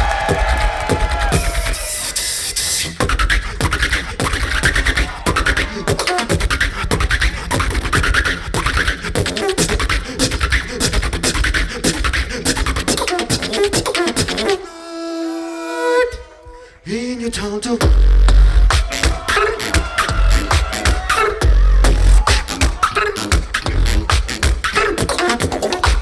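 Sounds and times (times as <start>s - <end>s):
beatbox beat with bass and snares: 0.0s - 14.6s, 17.8s - 26.0s
beatbox hissing build-up: 0.0s - 14.6s, 18.3s - 26.0s.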